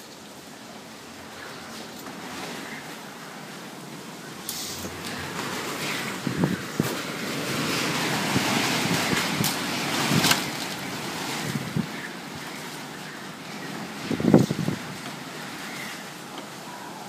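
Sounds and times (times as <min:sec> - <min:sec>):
gusting wind: 0:00.0 - 0:17.0.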